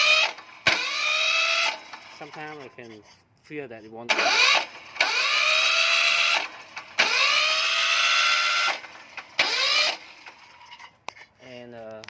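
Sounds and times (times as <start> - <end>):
starter motor cranking: 0.0 - 3.0, 4.1 - 10.9.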